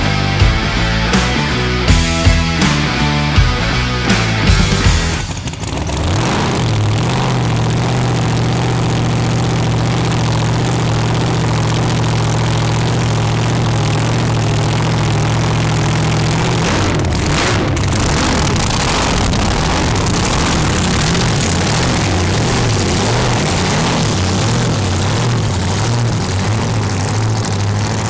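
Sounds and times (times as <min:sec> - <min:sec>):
drag car engine starting and idling: 0:00.0 - 0:28.0.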